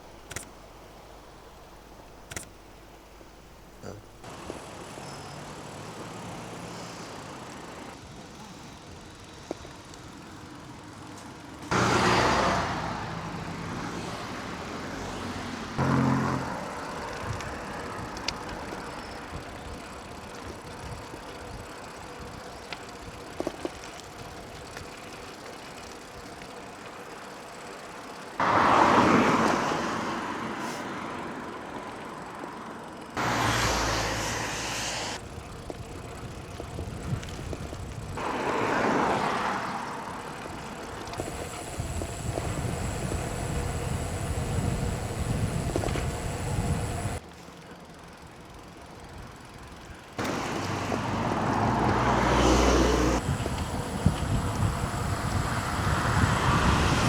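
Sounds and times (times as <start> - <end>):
steady road noise: 0.0 - 57.0
vehicles passing by: 0.0 - 57.0.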